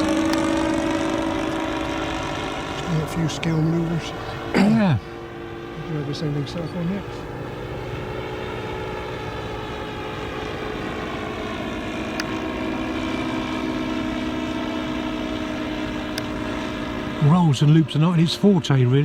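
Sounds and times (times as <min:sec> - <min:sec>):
model airplane engine droning: 0:00.0 - 0:19.0.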